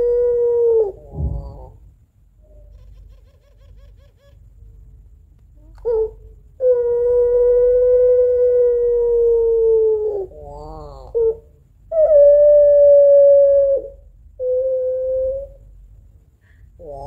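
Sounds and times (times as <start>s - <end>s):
dove long crying call: 0.0s - 1.8s, 2.4s - 4.4s, 5.7s - 17.0s.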